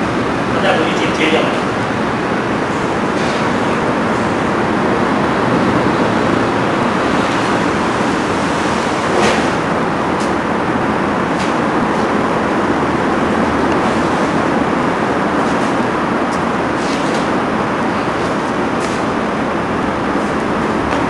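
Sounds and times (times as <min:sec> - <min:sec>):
loud steady noise: 0:00.0 - 0:21.0.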